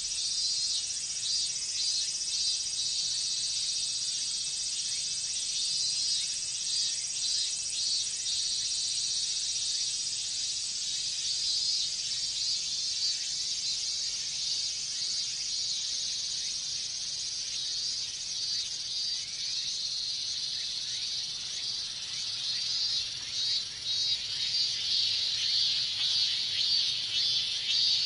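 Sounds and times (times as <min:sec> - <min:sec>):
cicadas singing: 0:00.0 - 0:28.0.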